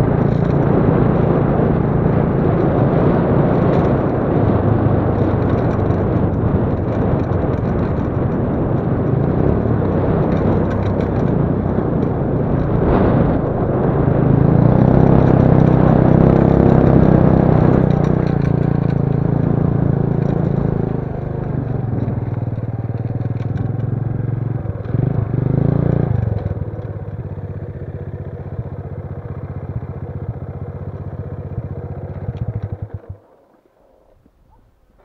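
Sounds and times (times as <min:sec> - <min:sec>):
small motorcycle engine running: 0:00.0 - 0:34.2.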